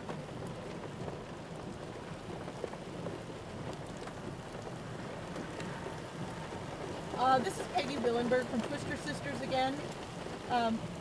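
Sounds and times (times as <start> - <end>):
raindrops ticking on surface: 0.0 - 11.0
steady rain falling: 0.0 - 11.0.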